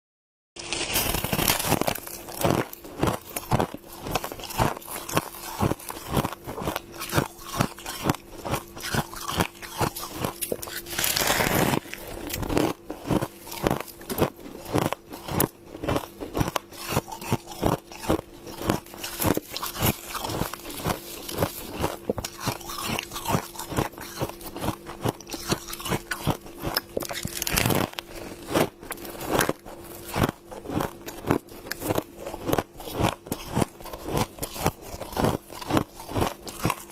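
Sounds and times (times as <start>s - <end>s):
crunching and chewing frost: 0.6s - 36.9s.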